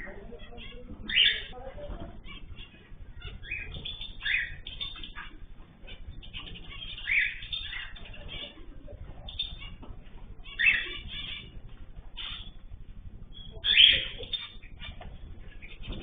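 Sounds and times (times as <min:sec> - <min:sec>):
birds chirping and calling: 0:00.0 - 0:16.0
loud bird calls: 0:00.0 - 0:16.0
wings flapping: 0:00.1 - 0:16.0.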